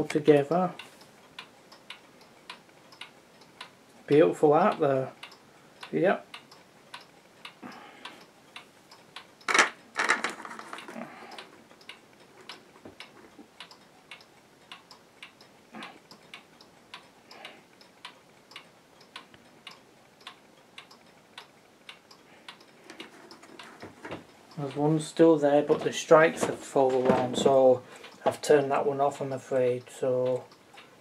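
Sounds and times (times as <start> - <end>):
pendulum wall clocks ticking: 0.0 - 31.0.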